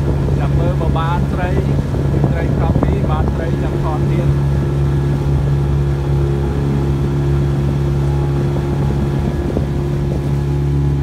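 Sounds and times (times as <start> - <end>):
boat motor droning: 0.0 - 11.0
water noise: 0.0 - 11.0
wind: 0.0 - 11.0.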